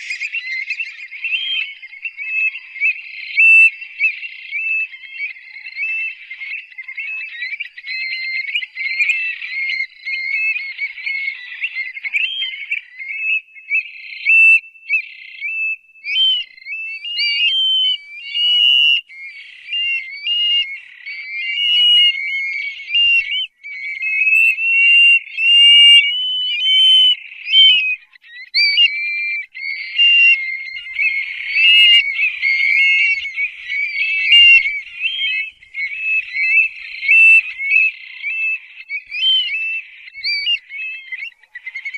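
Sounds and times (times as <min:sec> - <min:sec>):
birds whistled calls: 0:00.0 - 0:41.9.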